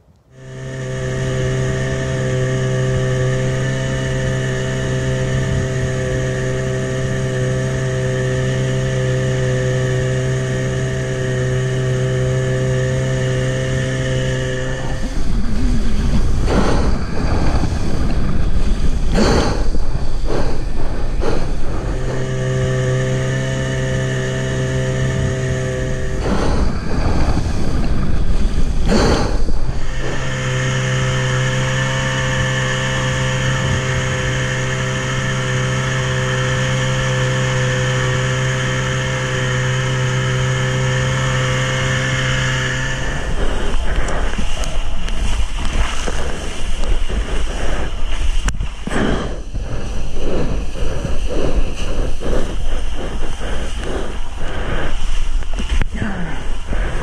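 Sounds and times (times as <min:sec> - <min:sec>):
outboard motor drone: 0:00.0 - 0:57.0
wind on microphone: 0:00.0 - 0:57.0
rushing water spray: 0:00.4 - 0:57.0.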